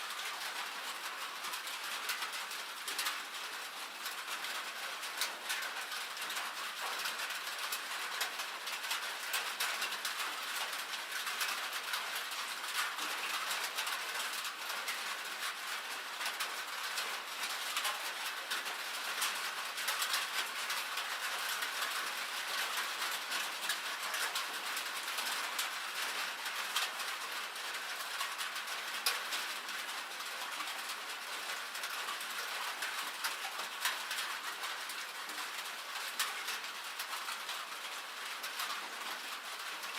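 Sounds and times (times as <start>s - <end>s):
rain and hail on a metal roof: 0.0s - 39.9s.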